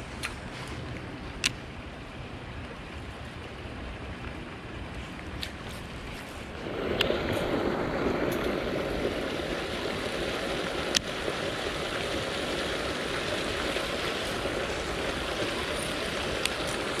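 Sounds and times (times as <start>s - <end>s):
water pouring into canal: 2.2s - 17.0s.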